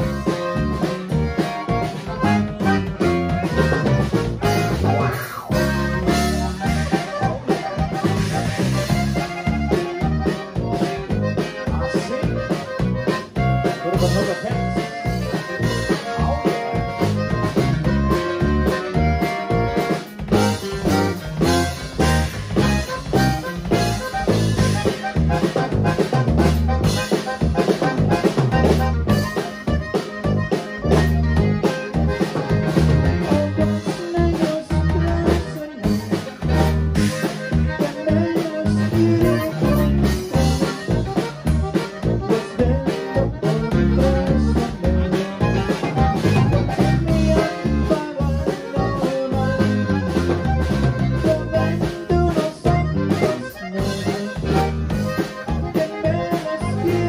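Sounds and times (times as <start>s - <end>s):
accordion: 0.0s - 57.0s
acoustic guitar: 0.0s - 57.0s
drum beat: 0.0s - 57.0s
electric bass: 0.0s - 57.0s.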